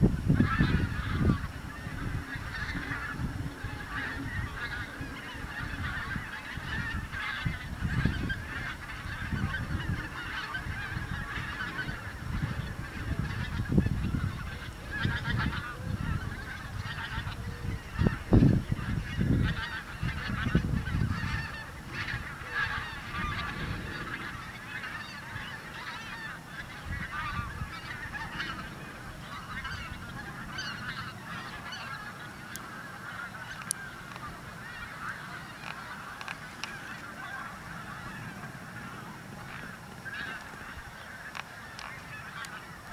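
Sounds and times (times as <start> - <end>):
geese honking in flight: 0.0 - 42.9
wind rumbling on microphone: 0.0 - 42.9.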